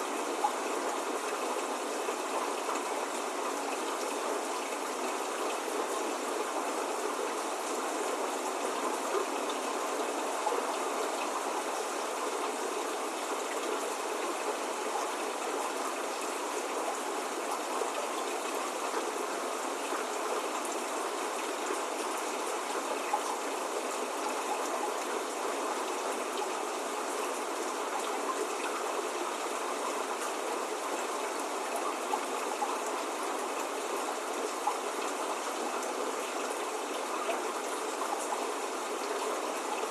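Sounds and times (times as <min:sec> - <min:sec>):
rain falling steady hiss: 0:00.0 - 0:39.9.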